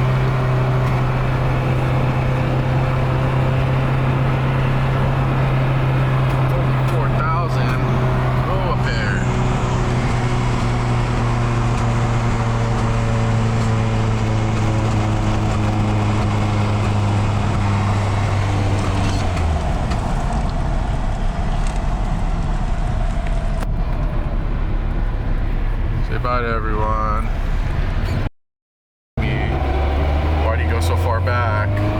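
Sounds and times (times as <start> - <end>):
car engine and exhaust droning: 0.0 - 28.3, 29.2 - 31.9
road noise: 0.0 - 28.3, 29.2 - 31.9.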